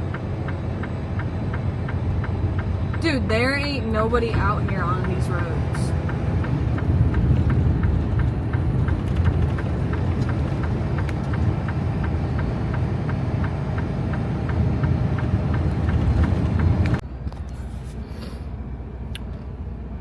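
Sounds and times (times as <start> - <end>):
road noise: 0.0 - 20.0
truck engine rumble: 0.0 - 20.0
light ticking: 0.1 - 17.0.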